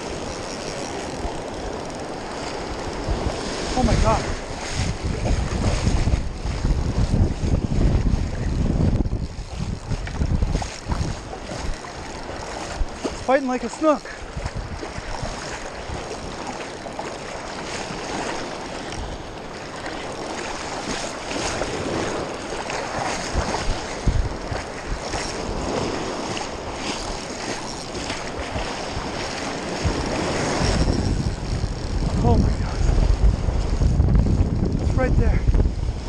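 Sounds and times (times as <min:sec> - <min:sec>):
ocean surf breaking: 0:00.0 - 0:36.0
wind buffeting microphone: 0:00.0 - 0:36.0.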